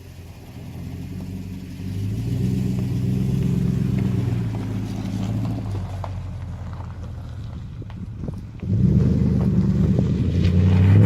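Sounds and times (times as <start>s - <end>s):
truck engine low drone: 0.0s - 11.0s.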